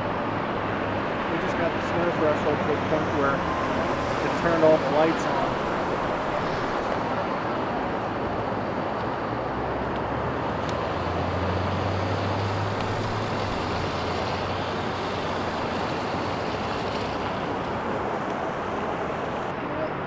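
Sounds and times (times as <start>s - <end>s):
passing vehicle engine drone: 0.0s - 19.6s
highway traffic noise: 0.0s - 20.0s.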